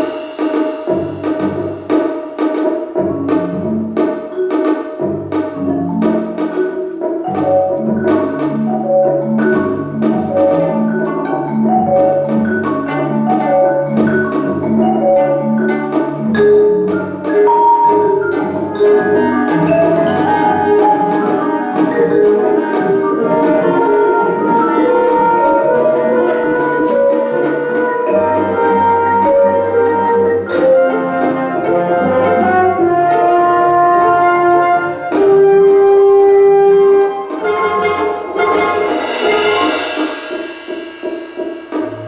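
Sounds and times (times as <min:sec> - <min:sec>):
plucked zither notes: 0:00.0 - 0:34.4
chamber ensemble playing: 0:00.0 - 0:42.0.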